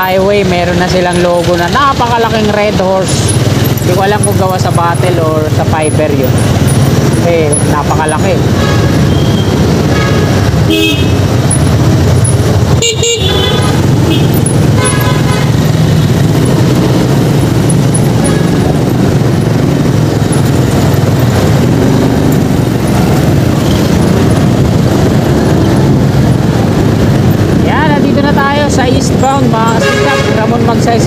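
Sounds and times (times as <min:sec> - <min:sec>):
wind noise: 0:01.5 - 0:31.0
scooter engine running: 0:02.4 - 0:31.0.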